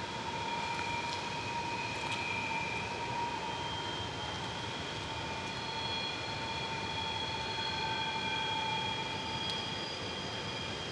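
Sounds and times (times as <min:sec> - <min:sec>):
high-pitched train whine: 0:00.0 - 0:10.9.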